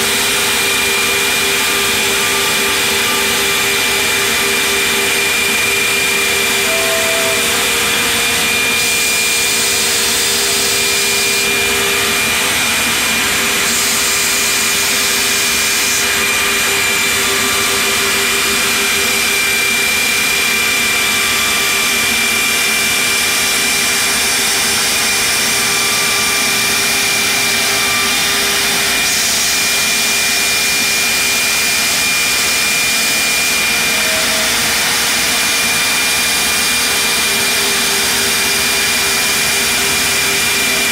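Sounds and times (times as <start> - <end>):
router spindle with high whine: 0.0 - 40.9.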